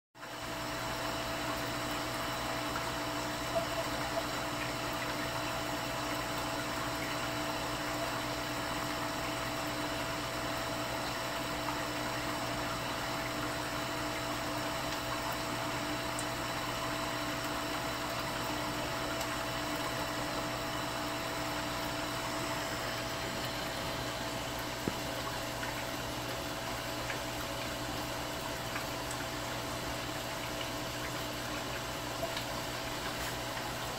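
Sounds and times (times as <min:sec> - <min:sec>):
aquarium filter bubbling: 0:00.2 - 0:33.9
constant hum: 0:00.2 - 0:33.9.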